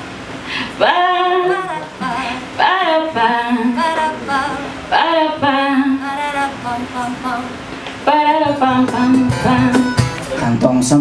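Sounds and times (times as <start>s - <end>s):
person singing unaccompanied: 0.8s - 11.0s.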